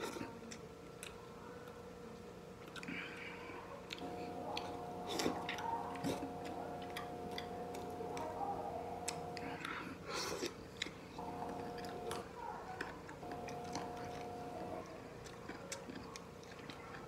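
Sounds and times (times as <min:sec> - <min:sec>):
person chewing and lip smacking: 0:00.0 - 0:01.8, 0:02.6 - 0:17.0
faint hum: 0:00.0 - 0:17.0.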